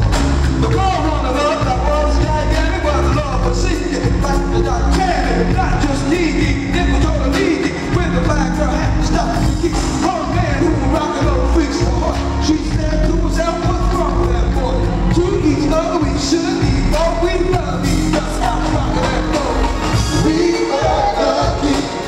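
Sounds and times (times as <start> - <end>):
live band playing upbeat song: 0.0 - 22.0
man singing into microphone: 0.6 - 22.0.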